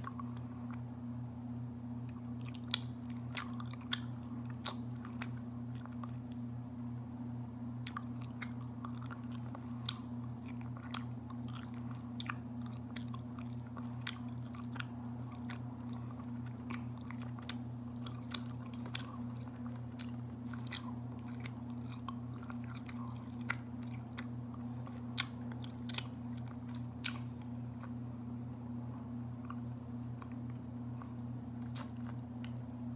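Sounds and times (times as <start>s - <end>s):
person chewing with smacking clicks: 0.0s - 0.8s, 2.0s - 6.4s, 7.8s - 32.9s
steady low hum: 0.0s - 32.9s.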